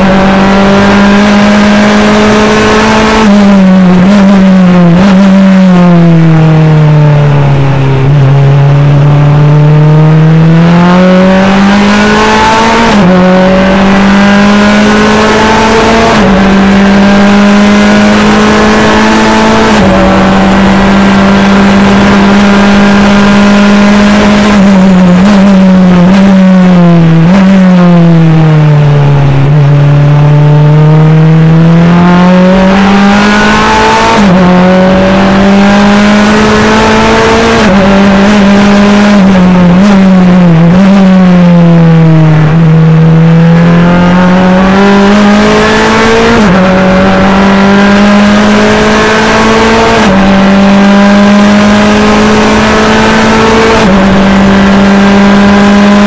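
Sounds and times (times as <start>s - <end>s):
race car engine: 0.0s - 56.0s.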